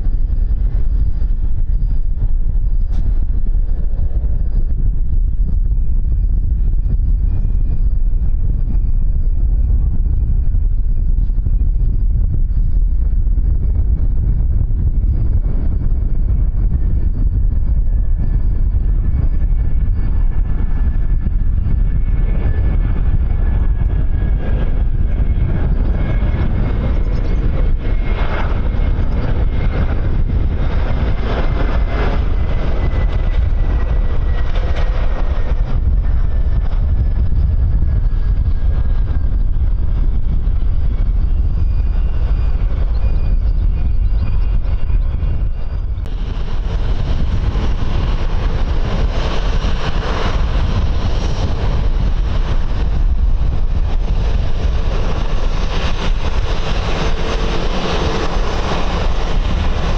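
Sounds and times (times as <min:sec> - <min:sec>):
jet engines passing: 0:00.0 - 0:59.9
wind rumble on microphone: 0:00.0 - 0:59.9.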